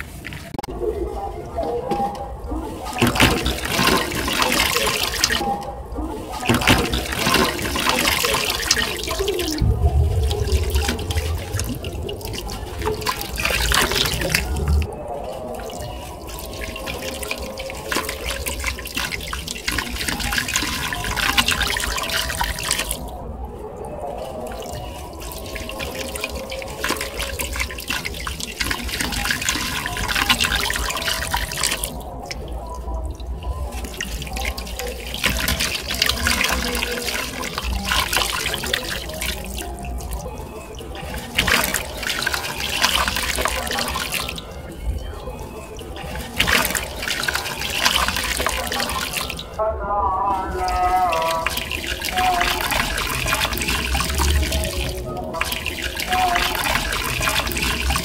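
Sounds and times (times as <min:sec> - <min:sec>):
splashes and trickling water: 0:00.0 - 0:58.0.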